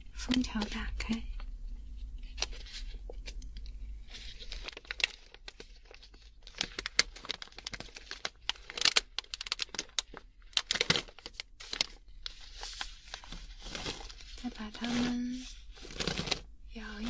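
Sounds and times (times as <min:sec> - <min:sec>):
plastic pouch crackling and rustling: 0:02.0 - 0:17.0.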